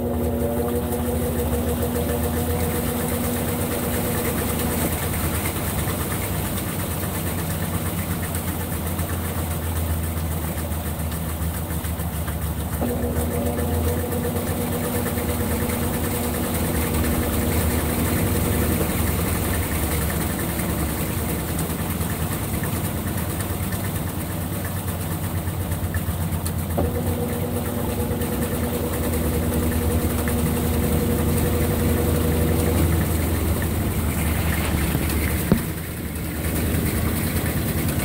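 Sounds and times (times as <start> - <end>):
washing machine motor hum: 0.0 - 38.0.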